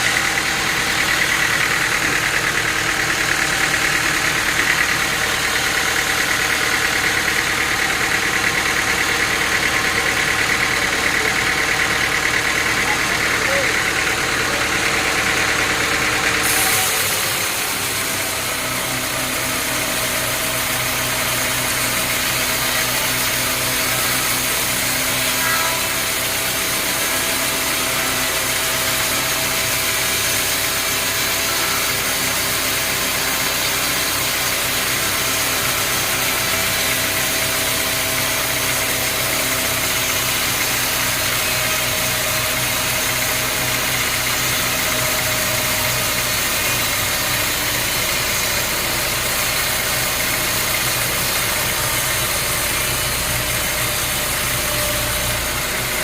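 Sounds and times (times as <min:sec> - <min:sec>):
sawmill engine hum: 0:00.0 - 0:56.0.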